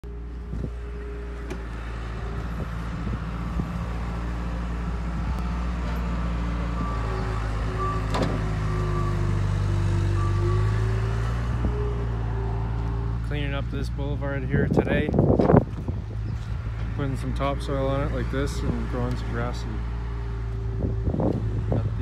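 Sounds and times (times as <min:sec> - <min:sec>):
loader engine running: 0:00.0 - 0:22.0.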